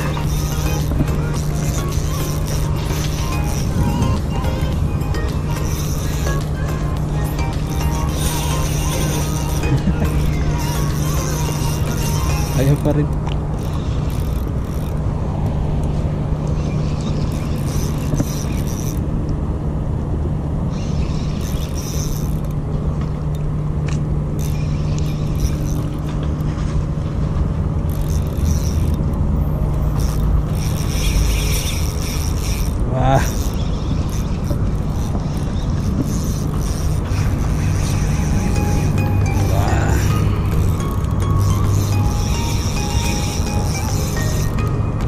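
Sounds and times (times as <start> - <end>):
fishing reel winding: 0.0 - 15.5, 16.4 - 19.1, 20.7 - 22.6, 24.4 - 26.6, 27.8 - 45.0
steady low hum: 0.0 - 45.0.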